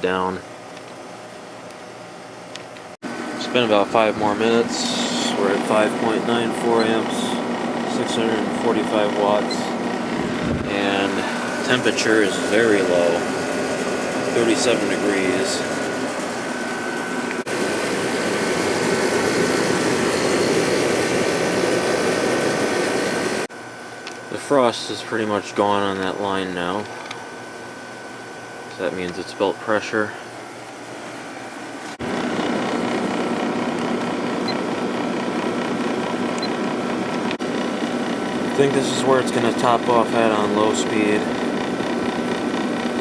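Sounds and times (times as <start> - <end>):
air conditioner fan and compressor: 0.0 - 43.0.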